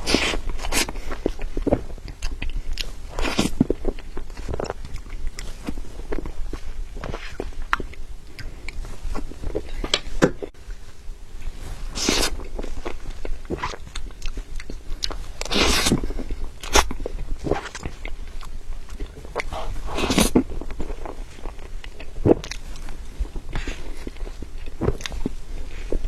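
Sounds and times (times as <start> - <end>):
chewing mouth sounds: 0.0 - 10.5, 12.0 - 26.0.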